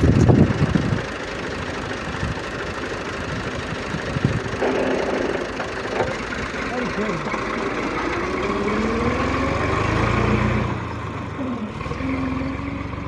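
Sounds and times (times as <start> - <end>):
tractor engine revving: 0.0 - 13.0.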